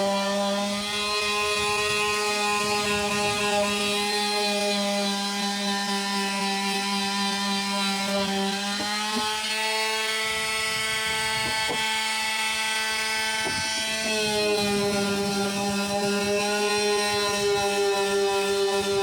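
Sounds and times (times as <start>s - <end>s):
electric sander on wood: 0.0s - 19.0s.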